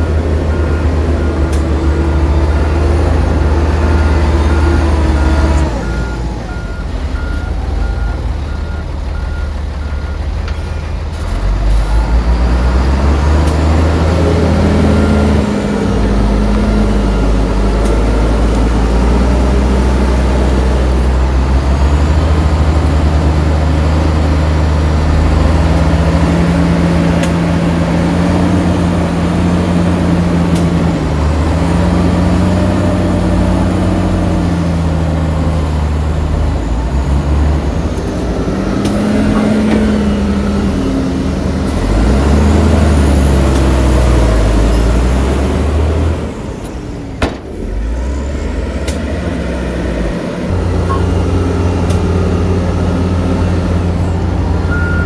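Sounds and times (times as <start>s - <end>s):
heavy diesel engines revving: 0.0s - 55.0s.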